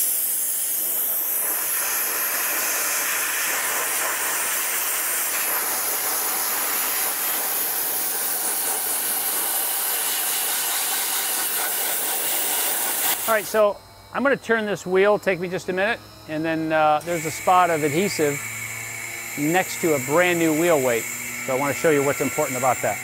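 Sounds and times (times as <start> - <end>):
dry ice blasting hiss: 0.0 - 23.0.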